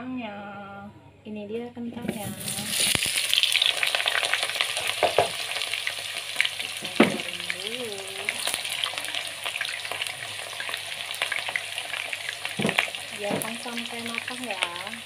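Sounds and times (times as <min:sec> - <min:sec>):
oil frying sizzle: 0:02.0 - 0:15.0.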